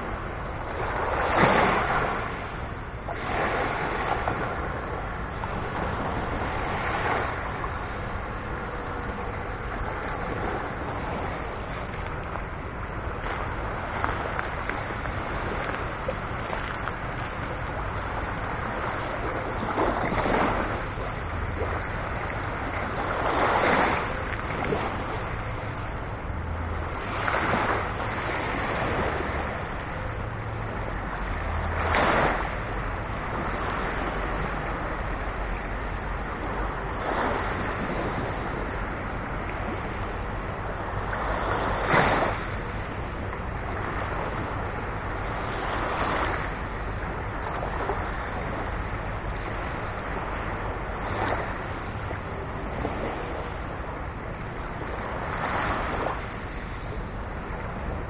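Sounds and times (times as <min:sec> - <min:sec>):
small waves washing up beach: 0:00.0 - 0:58.0
steady hiss of surf: 0:00.0 - 0:58.0.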